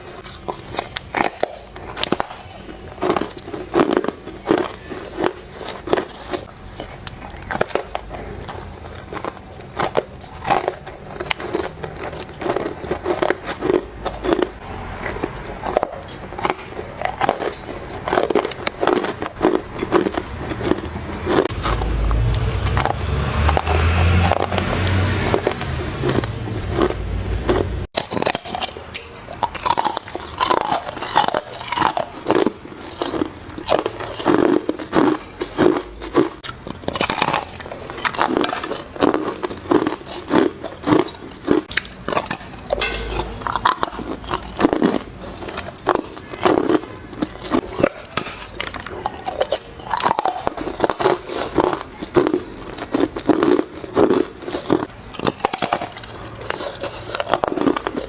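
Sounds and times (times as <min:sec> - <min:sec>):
ice cubes crunched between teeth: 0:00.0 - 0:58.0.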